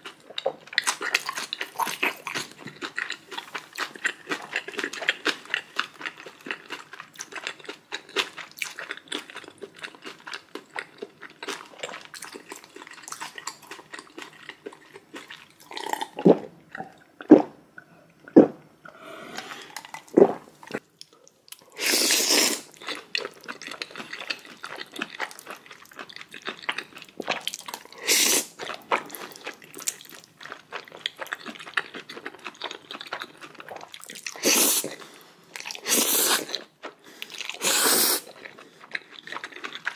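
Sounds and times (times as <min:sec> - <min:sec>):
wet chewing and smacking: 0:00.0 - 0:17.4, 0:22.7 - 0:39.9.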